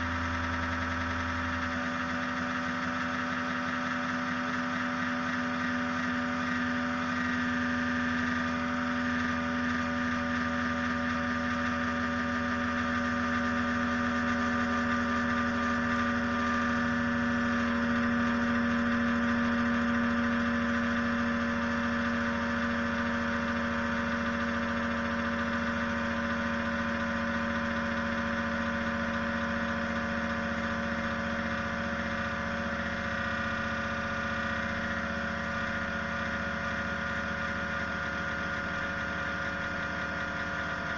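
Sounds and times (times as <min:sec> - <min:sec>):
computer power supply whirring: 0:00.0 - 0:40.9.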